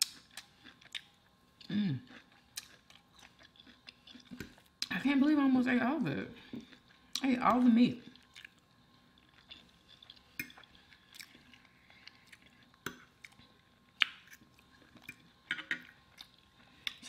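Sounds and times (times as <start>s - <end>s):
chewing soft food: 0.0s - 4.9s, 8.0s - 17.0s.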